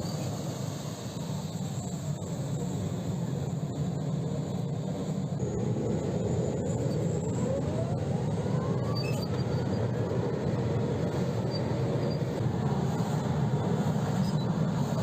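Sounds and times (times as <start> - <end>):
tank turbine engine rumble and whine: 0.0 - 15.0.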